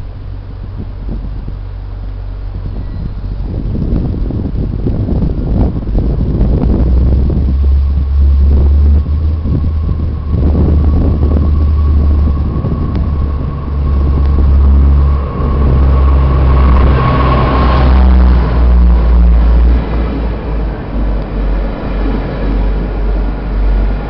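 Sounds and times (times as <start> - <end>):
diesel railcar passing: 0.0 - 24.0.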